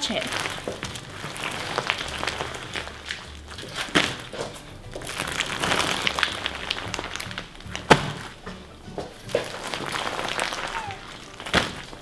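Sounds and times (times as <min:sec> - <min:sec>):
background music with low beat: 0:00.0 - 0:12.0
crunchy slime crackling: 0:00.0 - 0:12.0.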